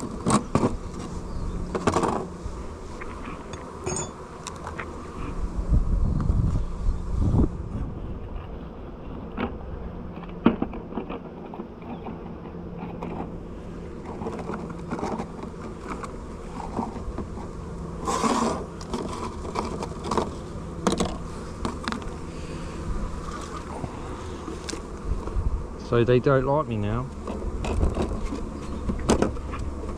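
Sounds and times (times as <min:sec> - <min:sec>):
bees buzzing: 0:00.0 - 0:29.9.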